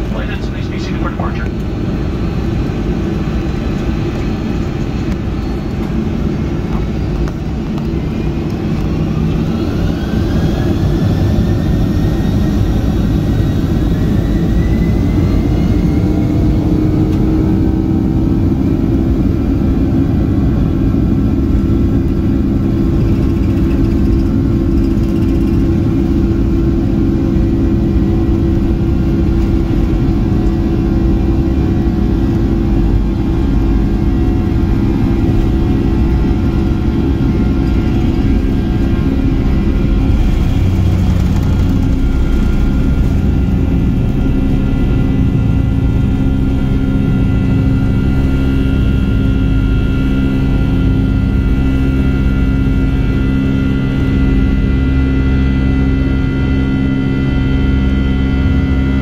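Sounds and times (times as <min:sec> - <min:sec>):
jet engines spooling up: 0:00.0 - 0:59.0
low engine rumble: 0:00.0 - 0:59.0.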